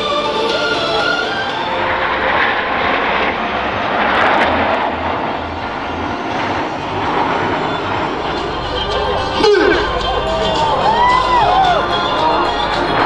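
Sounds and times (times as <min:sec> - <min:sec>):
background music: 0:00.0 - 0:03.7, 0:05.4 - 0:13.0
jet fighters flying past: 0:00.0 - 0:13.0.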